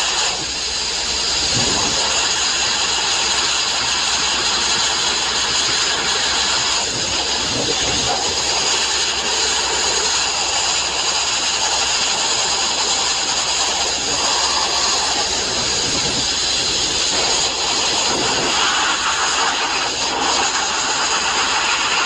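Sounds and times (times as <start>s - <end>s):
sandblasting nozzle hiss: 0.0s - 22.0s.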